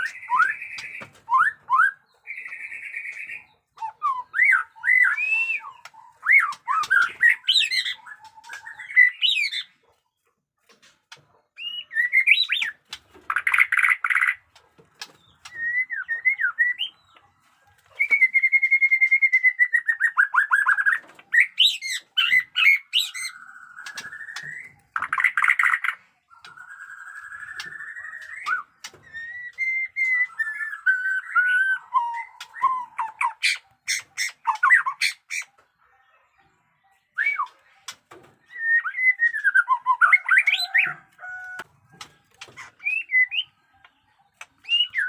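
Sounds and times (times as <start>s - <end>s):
songbird singing whistled song: 0.0s - 9.8s, 11.5s - 14.4s, 15.1s - 17.2s, 17.9s - 41.7s, 42.6s - 45.0s.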